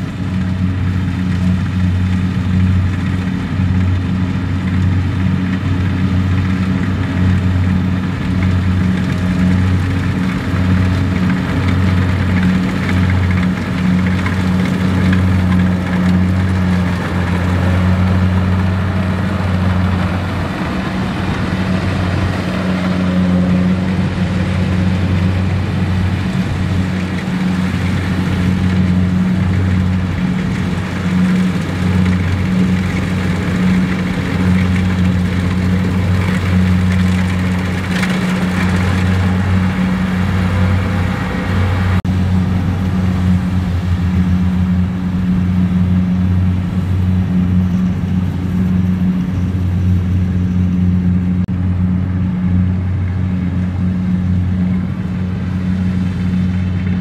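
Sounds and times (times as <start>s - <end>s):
combine harvester diesel drone: 0.0s - 57.0s.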